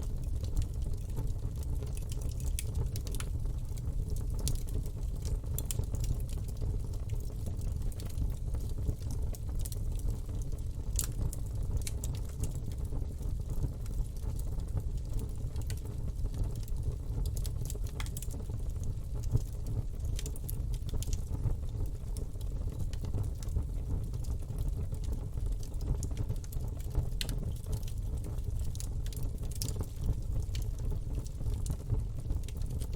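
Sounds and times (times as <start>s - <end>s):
fire crackling and popping: 0.0s - 32.9s
low rumble of flames: 0.0s - 32.9s.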